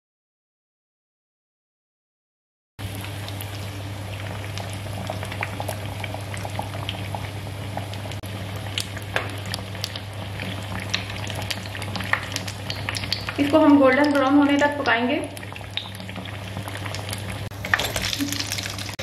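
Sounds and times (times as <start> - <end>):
oil bubbling with crackles: 2.8 - 19.0.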